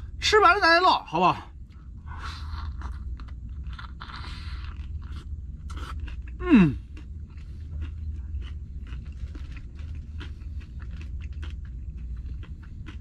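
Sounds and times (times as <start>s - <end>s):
steady low hum: 0.0s - 13.0s
person chewing wetly: 1.6s - 13.0s.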